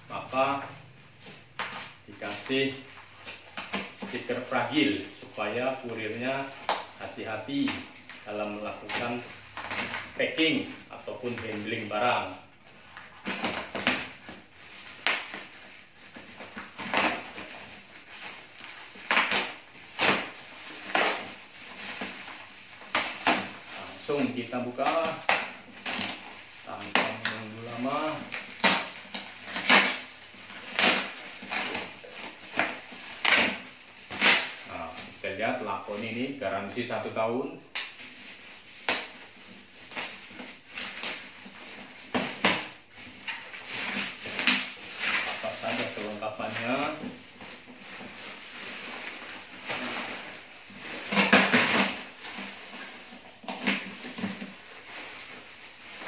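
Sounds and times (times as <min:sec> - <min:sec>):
plastic wrapping tearing and crinkling: 0:00.1 - 0:37.1, 0:37.7 - 0:56.0.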